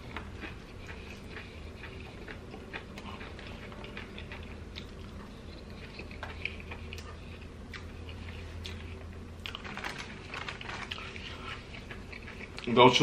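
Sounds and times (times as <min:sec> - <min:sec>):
chewing and lip-smacking: 0:00.0 - 0:12.8.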